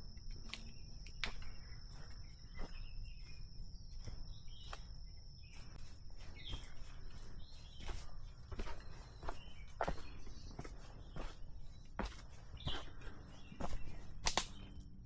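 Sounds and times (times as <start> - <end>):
footsteps on a trail: 0.0 - 15.0
high-pitched insect trill: 0.0 - 15.0.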